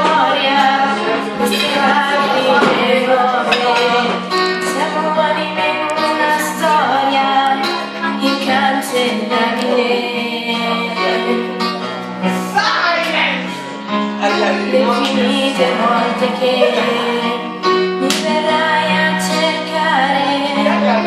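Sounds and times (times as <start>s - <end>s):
woman singing pop song: 0.0s - 11.8s, 14.6s - 21.0s
instrumental backing track: 0.0s - 21.0s.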